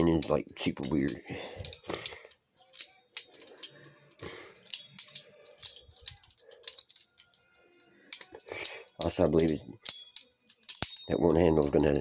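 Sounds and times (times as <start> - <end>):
butterfly knife clicking and rattling: 0.0 - 12.0.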